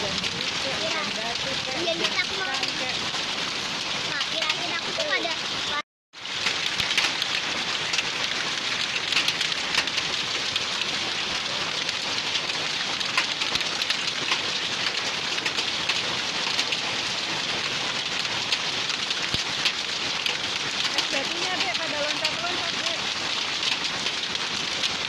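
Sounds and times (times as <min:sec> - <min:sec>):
hail ticking on hard surfaces: 0:00.0 - 0:25.0
heavy rain hissing: 0:00.0 - 0:25.0.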